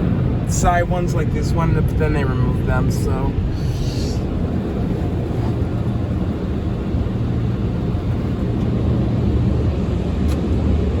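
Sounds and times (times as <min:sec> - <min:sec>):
muffled air dryer blowers roaring: 0:00.0 - 0:11.0.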